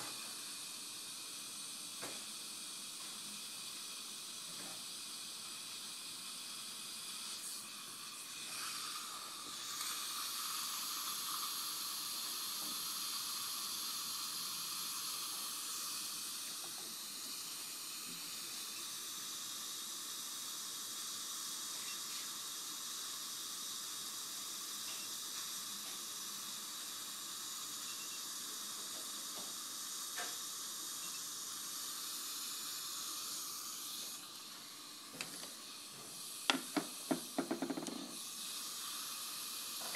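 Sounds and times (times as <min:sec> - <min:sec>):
dental suction hissing: 0:00.0 - 0:39.9.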